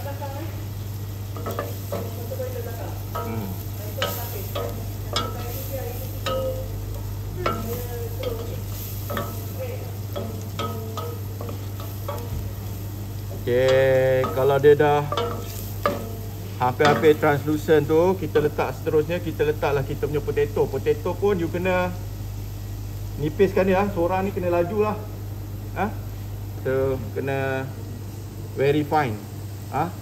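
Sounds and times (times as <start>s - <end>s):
onion sizzling: 0.0s - 30.0s
steady low hum: 0.0s - 30.0s.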